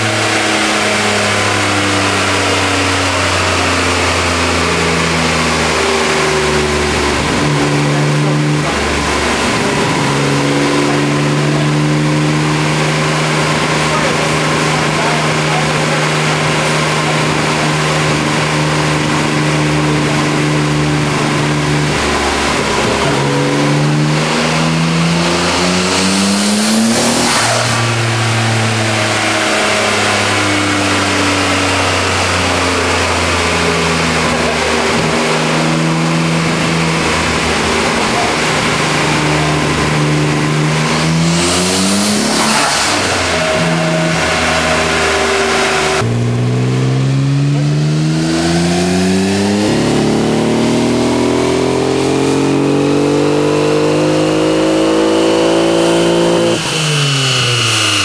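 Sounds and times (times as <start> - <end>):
misfiring car engine revving: 0.0 - 58.0.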